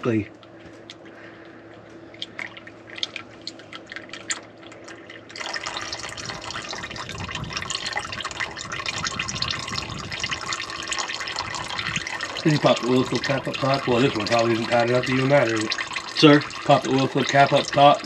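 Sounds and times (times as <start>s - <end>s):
oil trickling into drain pan: 2.2s - 18.0s.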